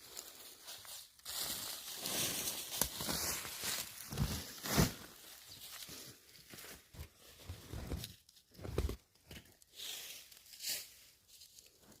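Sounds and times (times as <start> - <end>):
rustling and crinkling: 0.0 - 12.0.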